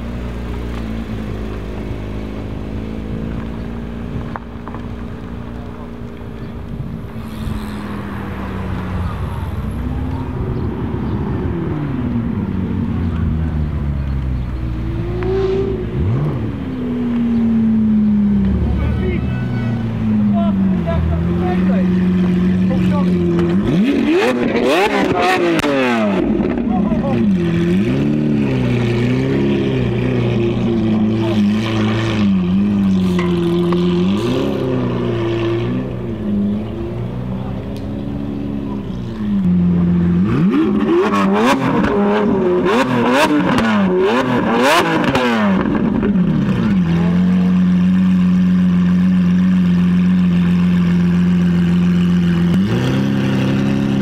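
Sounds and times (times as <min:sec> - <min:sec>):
other engines running: 0:00.0 - 0:54.0
sports car engine revving: 0:00.0 - 0:54.0.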